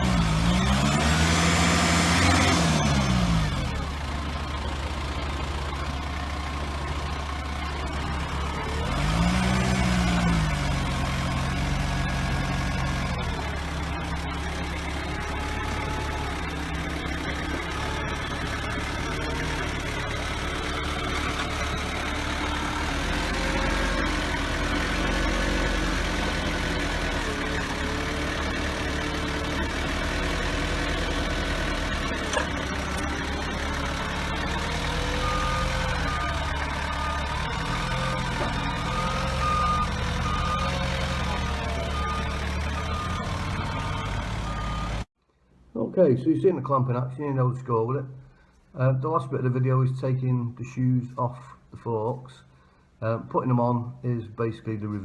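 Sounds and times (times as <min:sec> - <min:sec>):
forklift engine running: 0:00.0 - 0:45.2.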